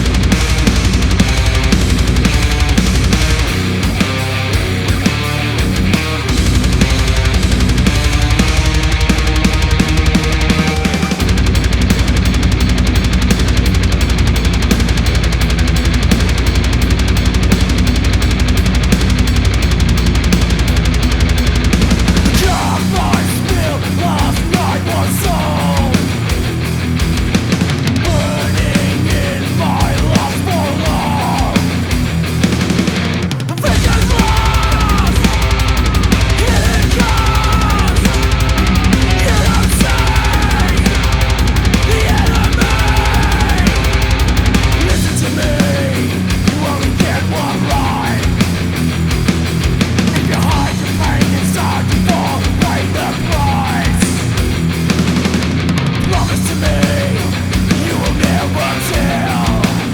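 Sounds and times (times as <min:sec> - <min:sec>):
black metal music: 0:00.0 - 0:59.9
distorted guitar riffs: 0:00.0 - 0:59.9
fast drumming: 0:00.0 - 0:59.9.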